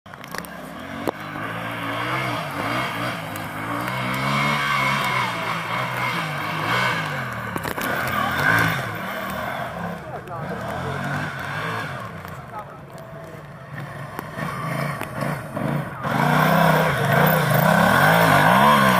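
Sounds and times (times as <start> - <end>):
tractor engine revving: 0.1 - 18.9.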